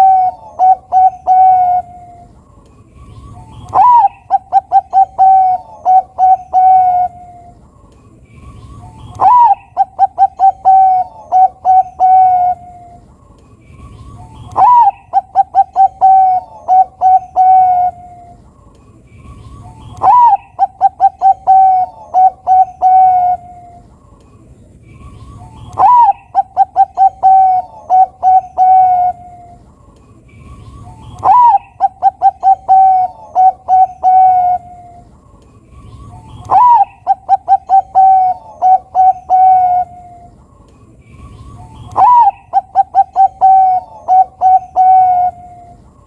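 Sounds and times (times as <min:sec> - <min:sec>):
dove cooing: 0:00.0 - 0:02.4, 0:03.2 - 0:07.7, 0:08.6 - 0:13.1, 0:14.0 - 0:18.4, 0:19.4 - 0:23.9, 0:25.0 - 0:29.7, 0:30.5 - 0:35.1, 0:35.8 - 0:40.5, 0:41.3 - 0:46.0.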